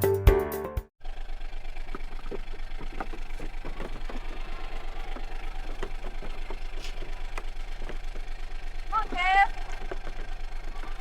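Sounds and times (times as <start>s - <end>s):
engine idling: 1.0s - 11.0s.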